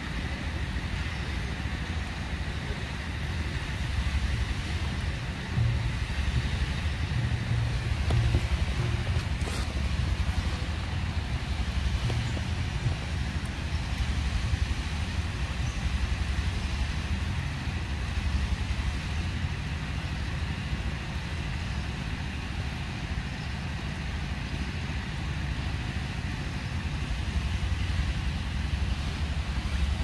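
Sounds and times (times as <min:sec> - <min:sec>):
background hiss: 0:00.0 - 0:30.0
wind buffeting microphone: 0:00.0 - 0:30.0.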